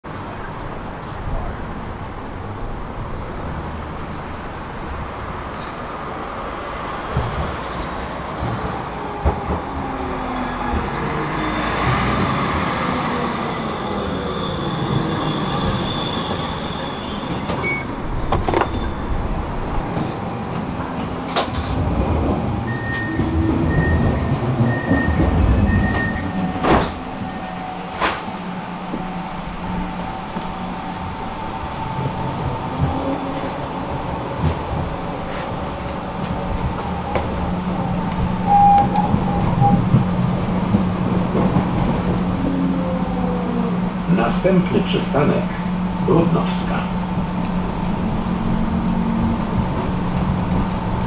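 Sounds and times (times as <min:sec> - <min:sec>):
tram rumble and motor whine: 0:00.0 - 0:51.0.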